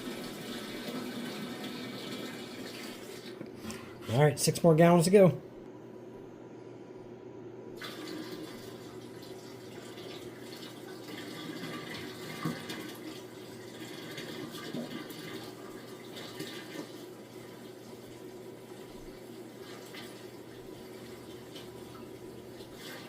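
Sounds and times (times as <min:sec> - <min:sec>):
water running into a container: 0:00.0 - 0:03.4, 0:07.8 - 0:23.0.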